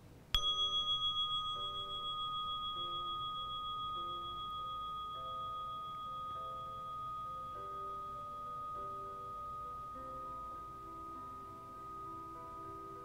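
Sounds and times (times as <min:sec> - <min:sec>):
meditation bell chime: 0:00.3 - 0:13.0
soft ambient music: 0:00.4 - 0:13.0.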